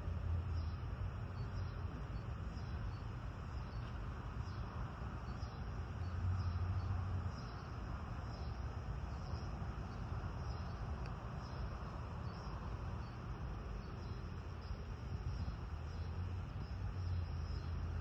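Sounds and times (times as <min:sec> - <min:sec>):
faint insect chirp: 0:00.0 - 0:18.0
wind rumble on microphone: 0:00.0 - 0:18.0.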